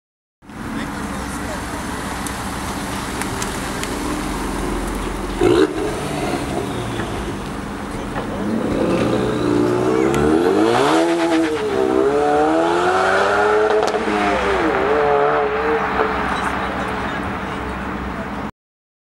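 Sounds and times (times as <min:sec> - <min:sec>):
car engine revving: 0:00.6 - 0:17.6.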